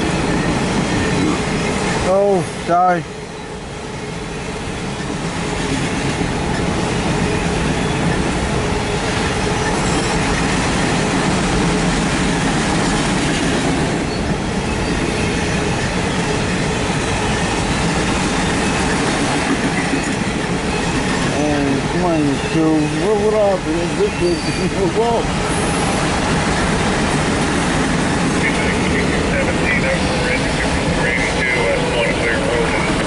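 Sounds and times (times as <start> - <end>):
steel wheels rumbling on rails: 0.0 - 33.0.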